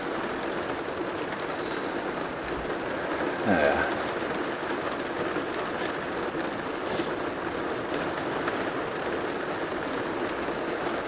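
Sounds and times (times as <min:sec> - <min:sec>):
rain on a roof: 0:00.0 - 0:11.0.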